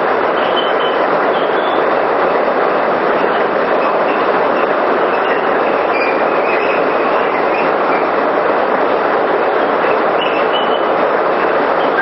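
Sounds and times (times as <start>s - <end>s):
water rushing through turbine: 0.0s - 12.0s.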